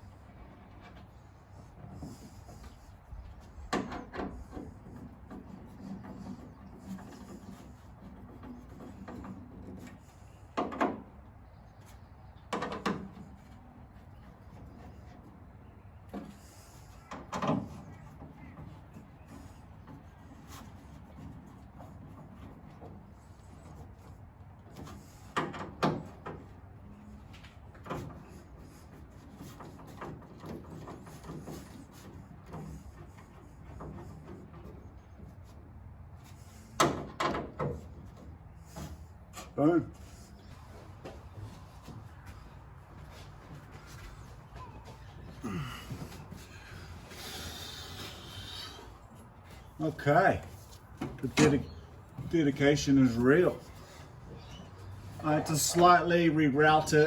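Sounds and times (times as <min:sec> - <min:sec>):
light taps and rustles: 0:00.4 - 0:56.0.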